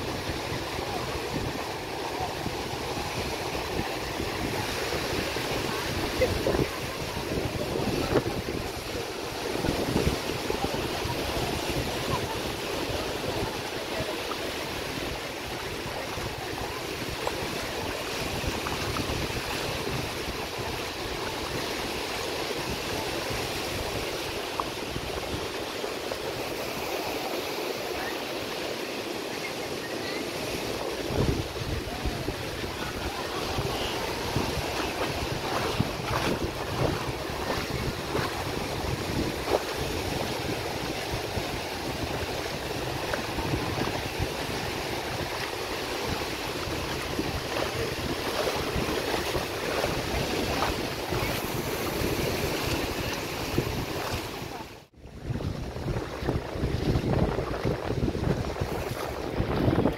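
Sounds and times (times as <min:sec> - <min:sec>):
wind buffeting microphone: 0:00.0 - 0:27.0, 0:30.6 - 0:59.9
waves washing onto beach: 0:00.0 - 0:59.9.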